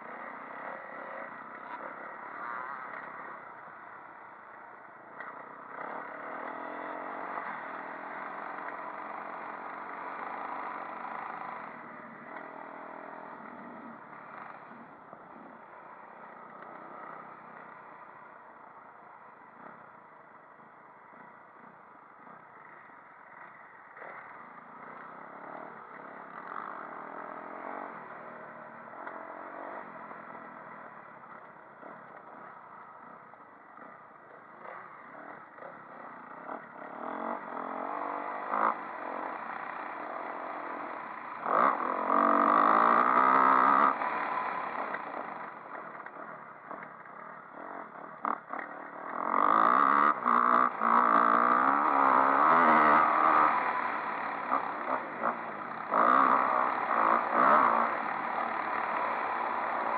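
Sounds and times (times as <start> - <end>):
motocross bike engine revving: 0.0 - 18.4, 19.0 - 59.9.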